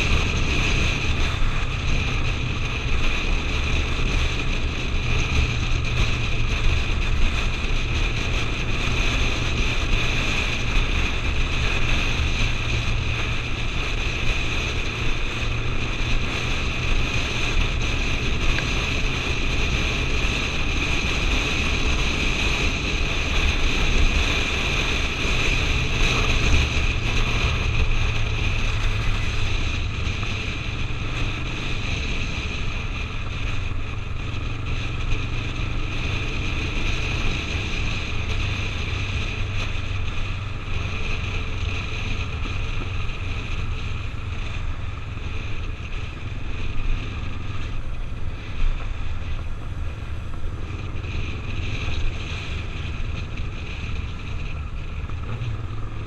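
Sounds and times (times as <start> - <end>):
motorcycle engine drone: 0.0 - 56.0
wind rushing on helmet: 0.0 - 56.0.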